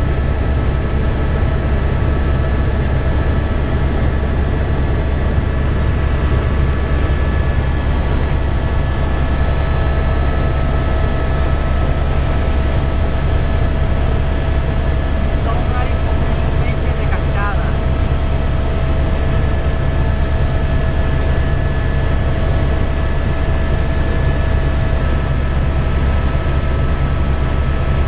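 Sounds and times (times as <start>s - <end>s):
helicopter rotor rumble: 0.0s - 28.0s.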